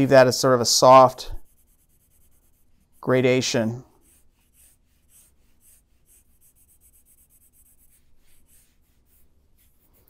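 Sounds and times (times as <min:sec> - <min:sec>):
pencil shading on paper: 0:01.4 - 0:10.0.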